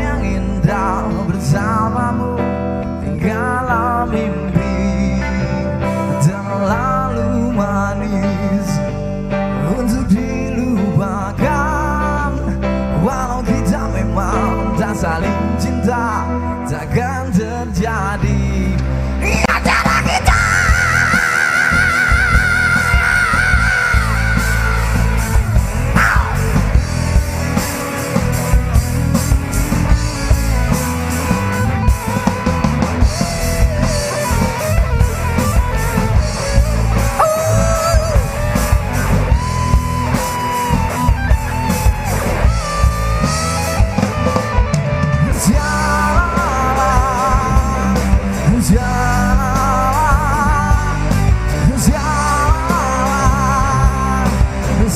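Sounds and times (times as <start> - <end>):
bass guitar: 0.0 - 54.9
drums: 0.0 - 54.9
lead guitar melody: 0.0 - 54.9.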